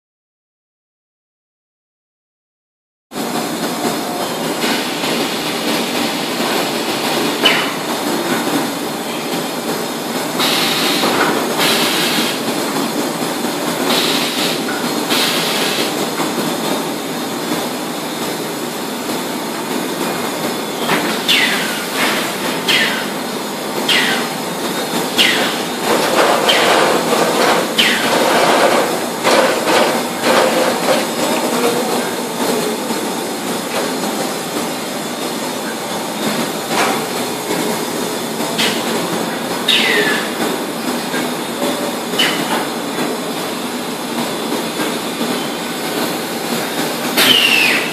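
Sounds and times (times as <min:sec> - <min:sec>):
conveyor and machine noise: 0:03.1 - 0:47.9.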